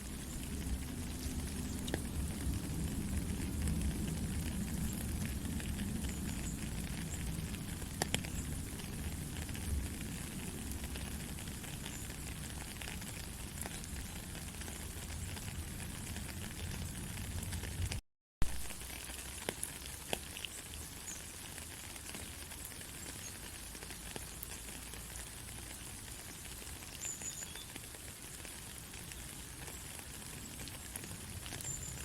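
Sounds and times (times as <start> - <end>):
raindrops ticking: 0.0 - 32.0
steady rain hiss: 0.0 - 32.0.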